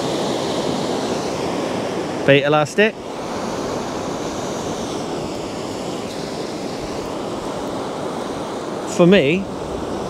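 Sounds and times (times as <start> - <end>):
sea surf washing on shore: 0.0 - 10.0
wind: 0.0 - 10.0.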